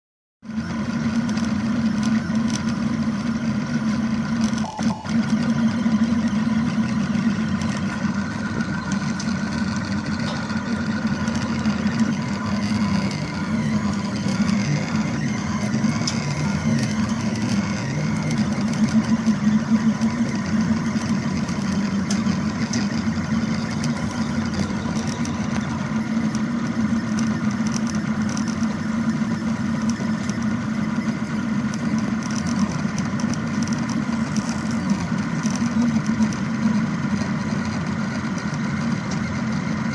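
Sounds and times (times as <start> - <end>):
stepper motors humming and whining: 0.5 - 39.9.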